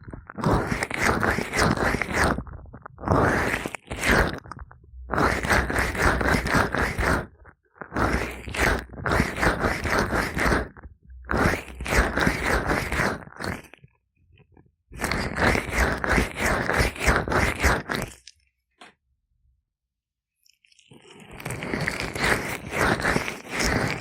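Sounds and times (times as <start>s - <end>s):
gloved fingers rubbing oily ears: 0.0s - 13.8s, 15.0s - 18.2s, 21.5s - 24.0s.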